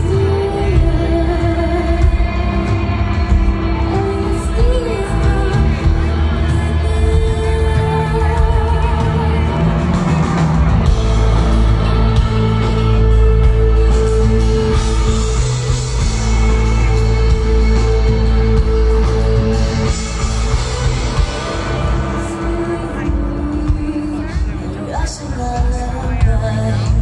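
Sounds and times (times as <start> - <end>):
live rock band playing: 0.0 - 27.0
person singing: 0.0 - 27.0.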